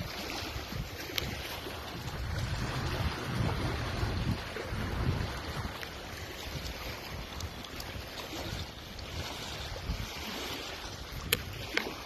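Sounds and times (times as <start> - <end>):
small waves on rocky shore: 0.0 - 12.0
wind buffeting microphone: 0.0 - 12.0.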